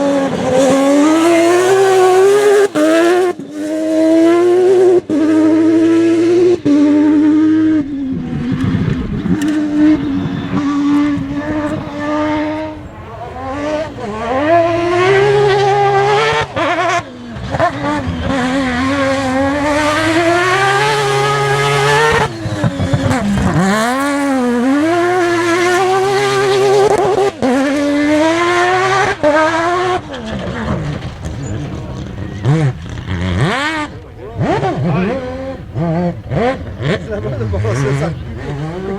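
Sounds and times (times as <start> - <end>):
rally car engine at full throttle: 0.0 - 38.9.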